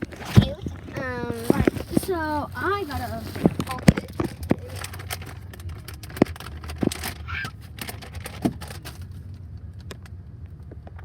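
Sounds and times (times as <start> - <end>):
toys and packaging clicking: 0.0 - 10.2
low steady rumble: 0.0 - 11.0.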